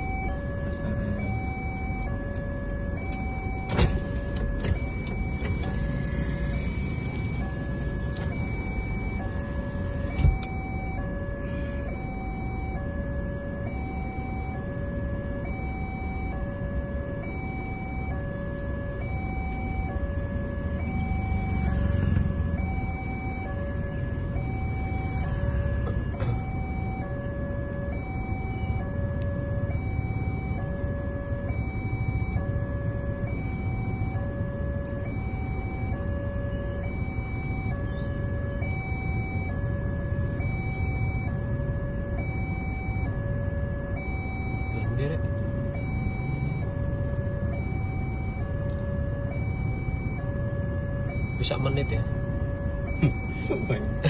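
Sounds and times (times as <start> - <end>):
level crossing two-tone alarm: 0.0 - 54.0
road vehicles rumbling: 0.0 - 54.0.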